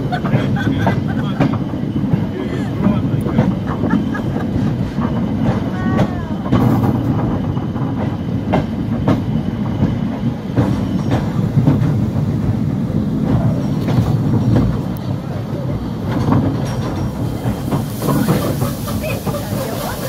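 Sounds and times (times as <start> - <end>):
train rumble: 0.0 - 20.0
wheels clacking over rail joints: 0.0 - 20.0.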